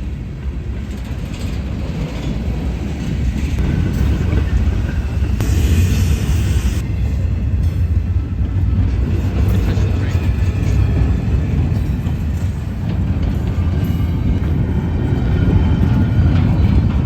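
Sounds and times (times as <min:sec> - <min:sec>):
freight train rumbling: 0:00.0 - 0:17.0
wind buffeting microphone: 0:00.0 - 0:17.0.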